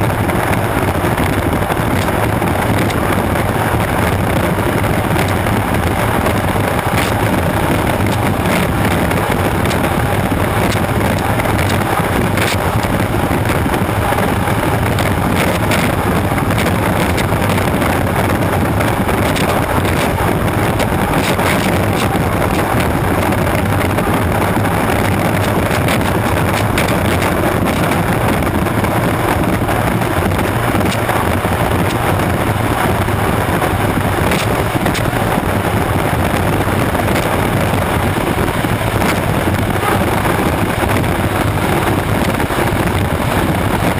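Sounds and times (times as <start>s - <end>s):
turbine engine running: 0.0s - 43.9s
wind on microphone: 0.0s - 43.9s.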